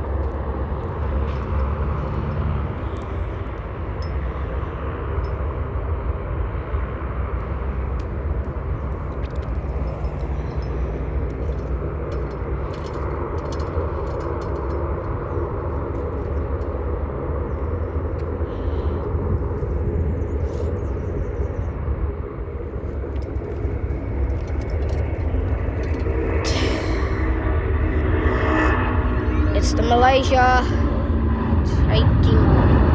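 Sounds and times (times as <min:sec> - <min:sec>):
jet engines during take-off: 0:00.0 - 0:32.9.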